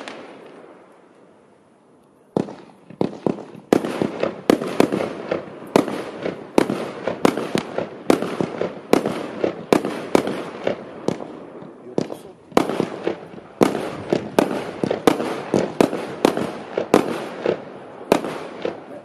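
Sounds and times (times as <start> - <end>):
fireworks bangs: 0.0 - 1.4, 2.3 - 19.0.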